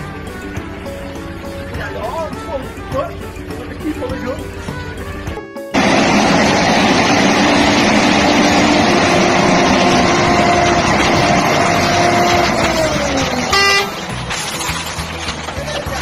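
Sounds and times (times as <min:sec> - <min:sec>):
heavy trucks running: 0:00.0 - 0:16.0.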